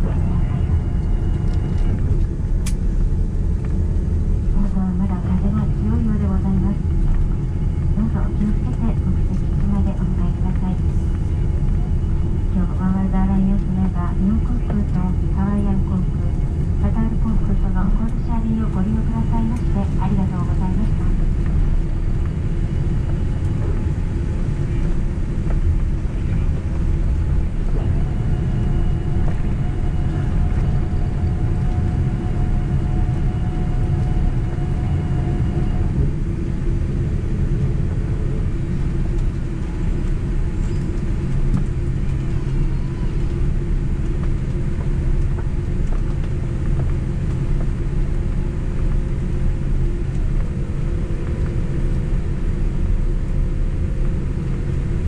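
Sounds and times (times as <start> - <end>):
aircraft cabin rumble: 0.0 - 55.0
faint steady whine: 0.0 - 55.0.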